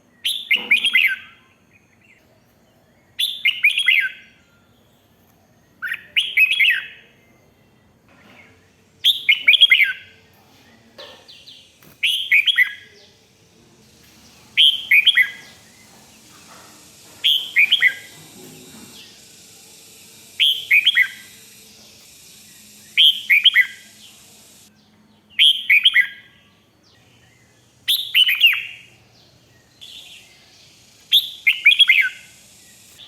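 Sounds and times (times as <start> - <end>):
bird singing whistled notes: 0.1 - 2.2, 2.9 - 8.0, 9.0 - 10.2, 11.5 - 13.2, 14.2 - 16.0, 16.9 - 18.2, 18.9 - 33.0.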